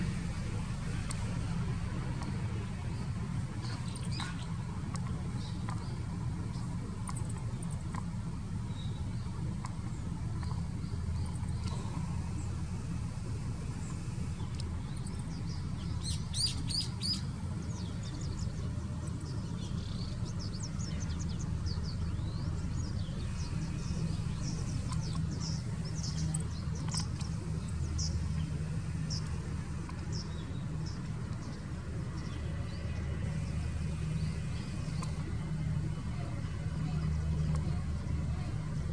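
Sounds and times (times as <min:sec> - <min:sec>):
small birds chirping: 0:00.0 - 0:38.9
steady low rumble: 0:00.0 - 0:38.9.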